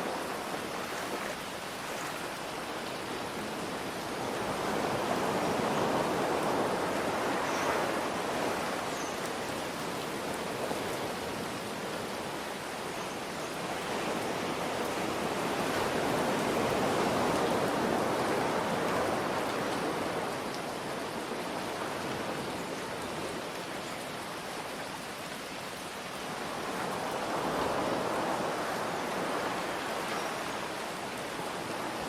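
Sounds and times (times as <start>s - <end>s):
ocean waves: 0.0s - 32.0s
steady rain: 0.0s - 32.0s.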